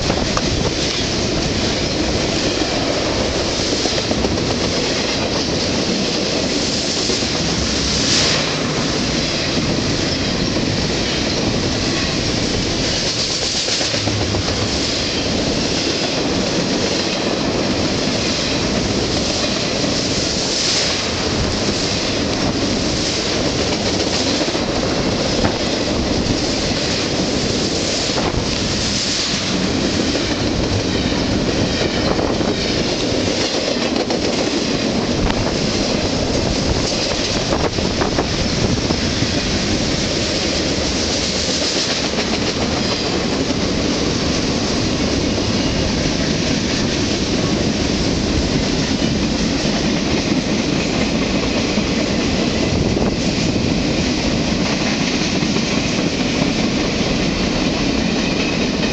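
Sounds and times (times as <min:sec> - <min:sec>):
freight train rumbling past: 0:00.0 - 0:58.9
wheels clacking over rail joints: 0:00.0 - 0:58.9.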